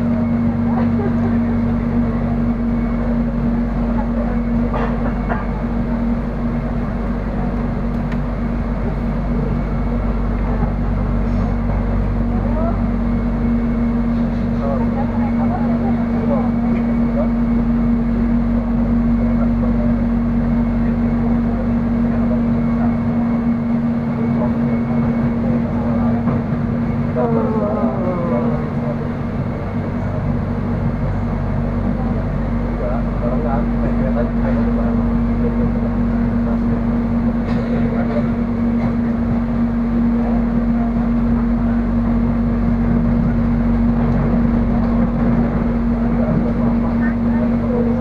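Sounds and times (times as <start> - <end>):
constant hum: 0.0 - 48.0
train wheels rumbling on track: 0.0 - 48.0.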